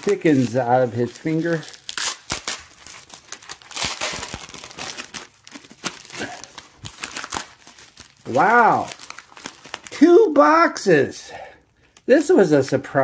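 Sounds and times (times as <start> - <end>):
plastic mailer and bubble wrap crinkling: 0.0 - 11.0.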